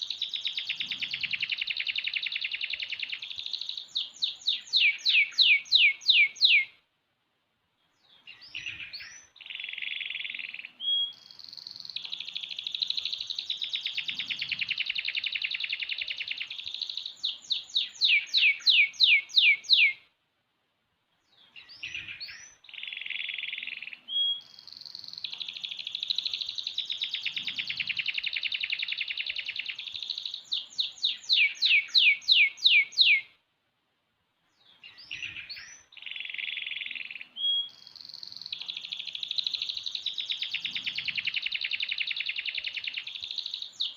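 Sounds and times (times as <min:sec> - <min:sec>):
canary singing trills: 0:00.0 - 0:06.8, 0:08.0 - 0:20.0, 0:21.3 - 0:33.4, 0:34.6 - 0:43.9.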